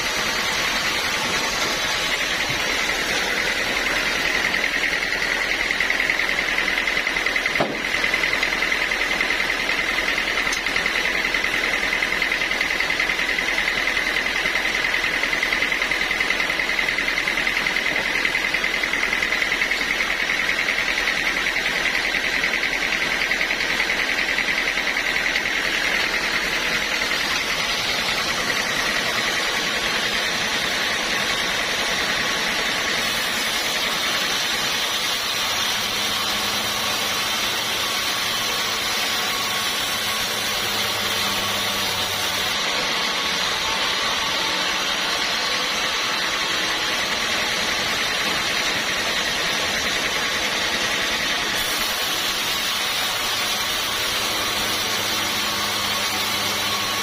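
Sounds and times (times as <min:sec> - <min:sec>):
sawmill saw whirring: 0:00.0 - 0:57.0.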